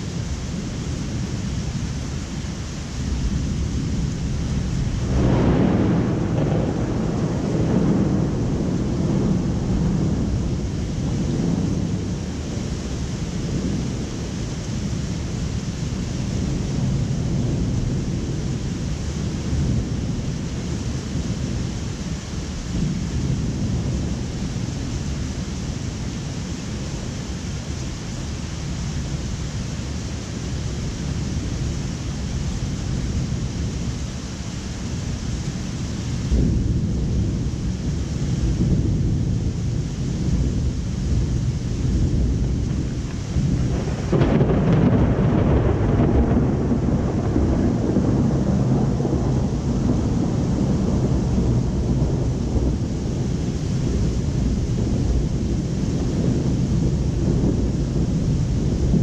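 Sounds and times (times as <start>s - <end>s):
distant rolling thunder: 0.0s - 59.0s
rain hiss: 0.0s - 59.0s.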